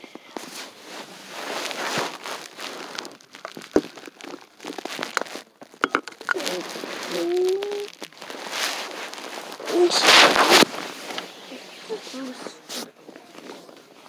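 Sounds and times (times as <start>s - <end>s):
snow crunching against microphone: 0.0s - 14.0s.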